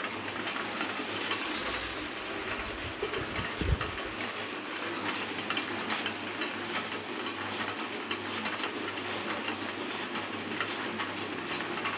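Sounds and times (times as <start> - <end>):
printing press clattering: 0.0 - 11.9.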